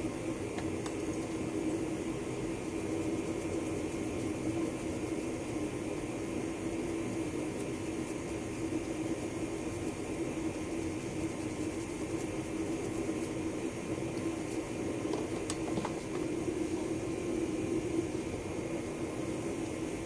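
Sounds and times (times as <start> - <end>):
background hum with hiss: 0.0 - 20.0.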